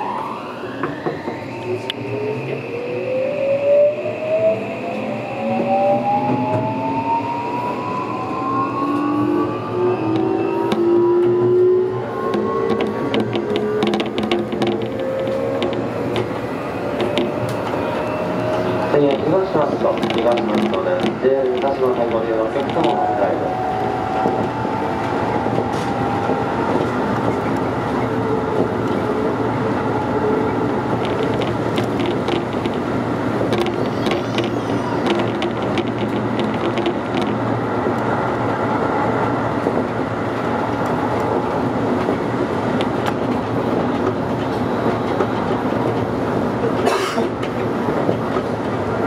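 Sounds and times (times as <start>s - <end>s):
wheels rumbling on rail: 0.0s - 49.0s.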